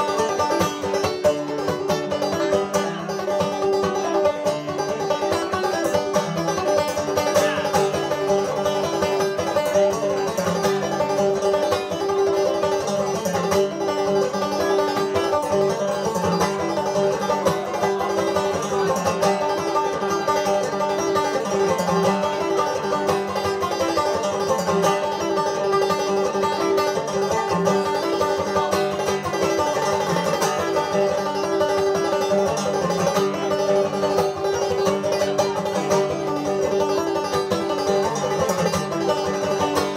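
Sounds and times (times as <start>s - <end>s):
banjo playing lively tune: 0.0s - 39.9s.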